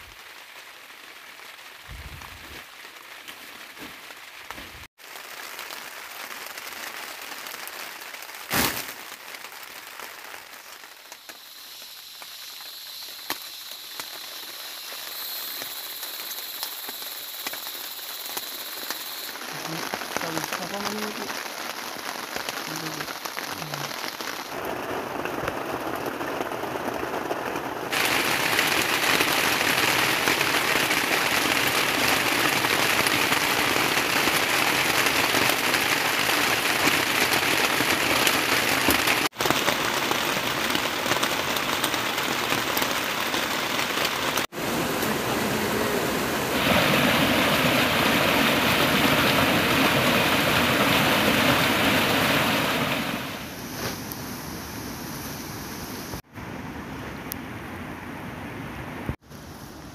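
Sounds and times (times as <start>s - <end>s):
heavy rain falling: 0.0s - 54.4s.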